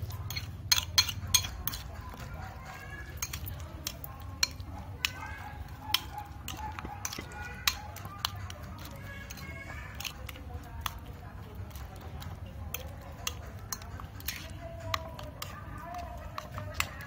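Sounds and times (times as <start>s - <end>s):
spoon clinking against ceramic bowl: 0.0s - 11.1s, 11.7s - 17.0s.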